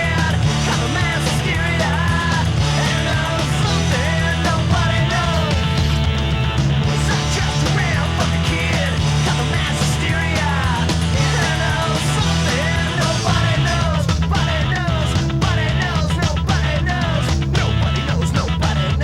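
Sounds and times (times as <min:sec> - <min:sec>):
shouted vocals: 0:00.0 - 0:06.1, 0:06.8 - 0:19.0
distorted guitar: 0:00.0 - 0:19.0
punk rock music: 0:00.0 - 0:19.0.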